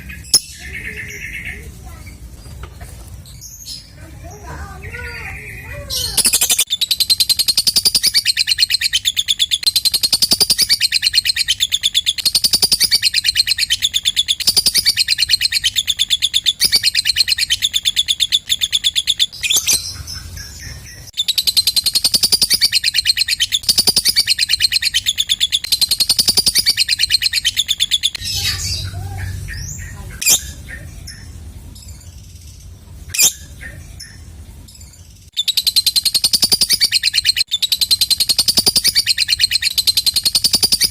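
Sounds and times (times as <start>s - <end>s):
lovebird chattering trill: 0.0s - 2.2s, 3.7s - 40.9s
loud sharp bird calls: 0.0s - 2.6s, 3.6s - 40.9s
bird chirps: 0.0s - 40.9s.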